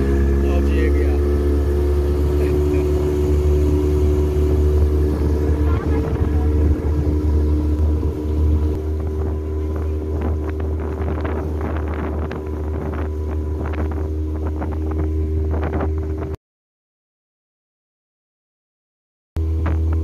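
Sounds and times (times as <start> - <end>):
outboard motor droning: 0.0 - 16.4, 19.4 - 20.0
rushes of wind or water: 0.0 - 16.4, 19.4 - 20.0.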